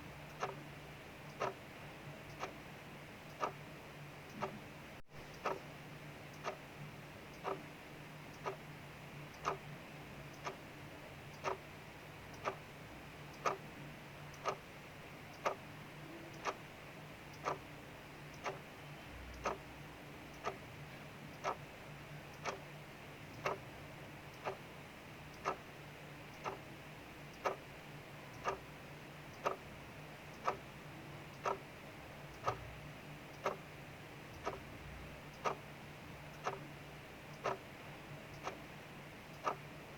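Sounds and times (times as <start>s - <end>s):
clock ticking: 0.1s - 5.7s, 6.3s - 20.7s, 21.3s - 39.9s.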